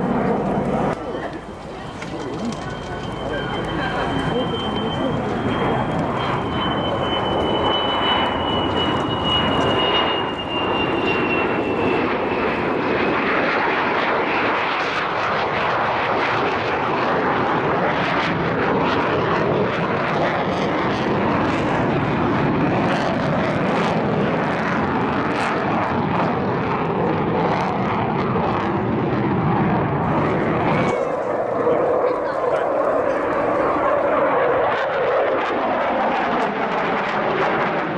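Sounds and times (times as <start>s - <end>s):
high jet whine: 0.0s - 26.1s, 29.7s - 37.9s
jet engine roar: 0.0s - 37.9s.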